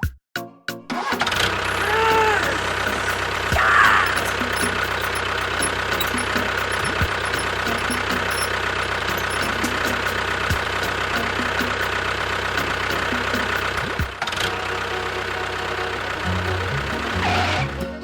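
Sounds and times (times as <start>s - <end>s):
motor running: 1.2s - 18.0s.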